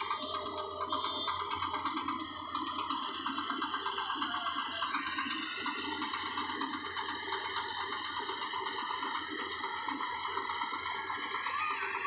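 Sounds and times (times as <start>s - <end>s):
combine harvester running: 0.0s - 12.0s
steady high tones: 0.0s - 12.0s.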